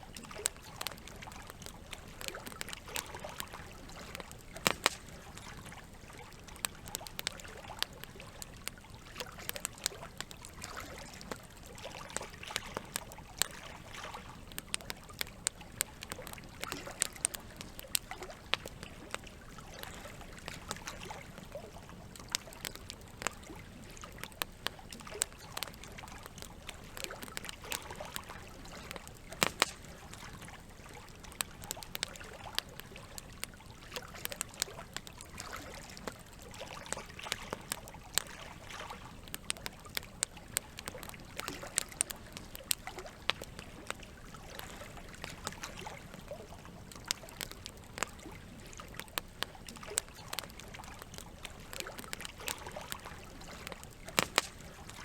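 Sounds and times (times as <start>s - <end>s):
campfire crackling and popping: 0.0s - 55.0s
trickling water: 0.0s - 55.0s.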